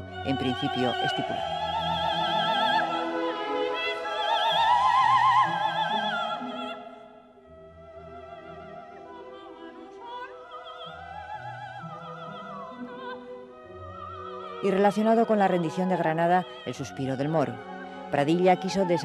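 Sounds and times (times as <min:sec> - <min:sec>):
operatic voice singing with vibrato: 0:00.0 - 0:19.0.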